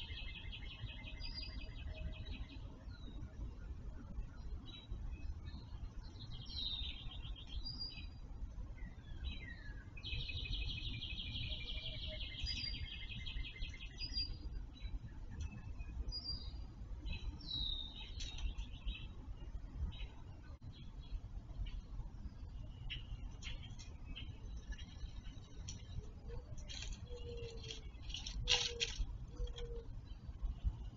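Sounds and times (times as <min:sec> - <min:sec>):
low steady rumble: 0:00.0 - 0:30.9
songbirds singing: 0:00.0 - 0:30.9.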